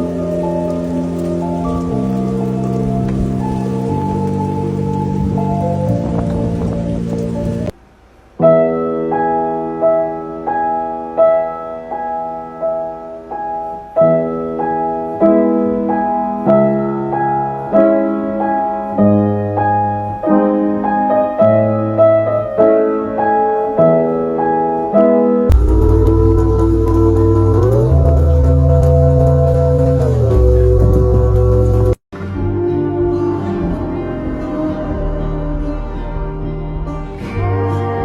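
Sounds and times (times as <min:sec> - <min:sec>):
solo piano music: 0:00.0 - 0:07.8, 0:08.4 - 0:38.0.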